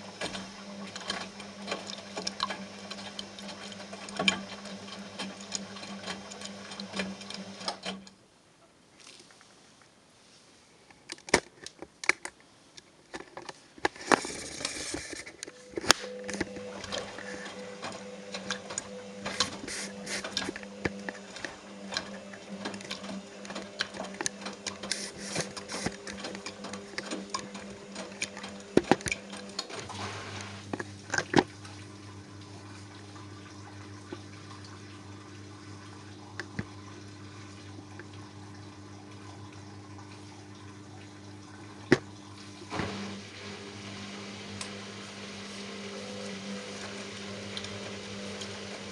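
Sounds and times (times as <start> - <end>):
washing machine motor humming: 0.0 - 8.2, 14.0 - 48.9
water running into machine: 0.0 - 8.2, 13.9 - 48.9.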